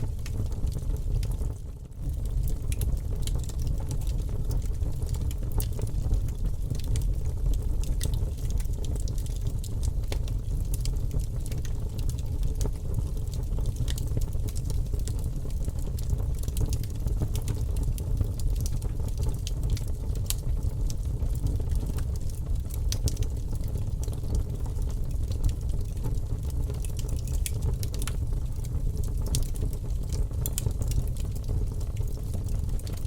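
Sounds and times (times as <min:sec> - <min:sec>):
low rumble of flames: 0:00.0 - 0:33.0
wood crackling and popping: 0:00.0 - 0:33.0.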